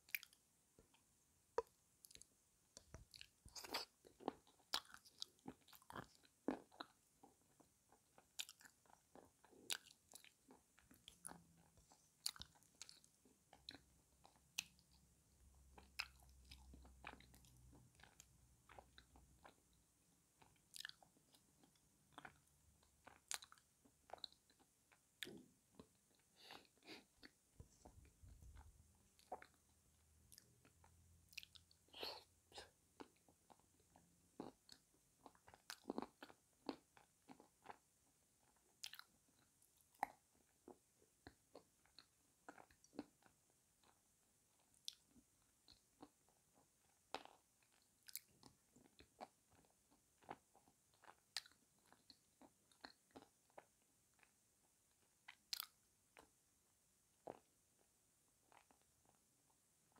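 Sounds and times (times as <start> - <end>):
chewing and crunching clay: 1.6 - 19.7, 20.4 - 54.4, 55.0 - 56.4.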